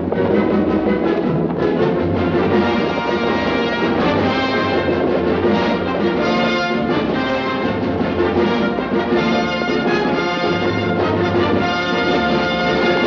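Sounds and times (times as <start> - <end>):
orchestral music with brass: 0.0 - 13.0.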